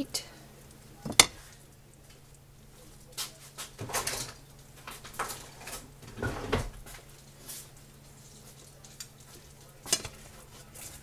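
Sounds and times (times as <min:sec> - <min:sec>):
sauce bubbling in frying pan: 0:00.0 - 0:11.0.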